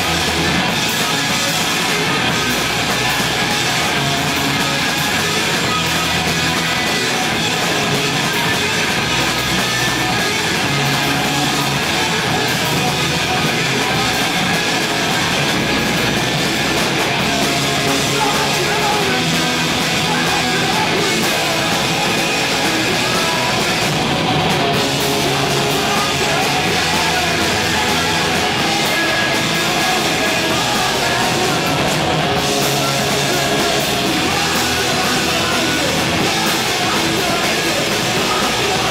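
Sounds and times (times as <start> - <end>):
drum kit: 0.0 - 38.9
electric guitars: 0.0 - 38.9.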